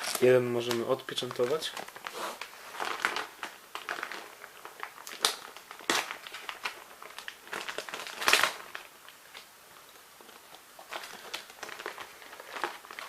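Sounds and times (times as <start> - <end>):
sharp packaging crackles: 0.0 - 9.5, 10.2 - 13.0
packaging crinkling and rustling: 0.0 - 13.0.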